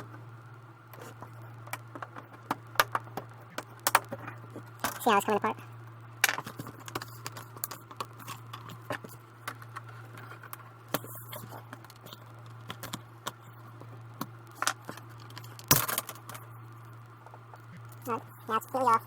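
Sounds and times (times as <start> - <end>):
steady low hum: 0.0 - 19.0
plastic cracking: 0.9 - 5.3, 6.2 - 18.1.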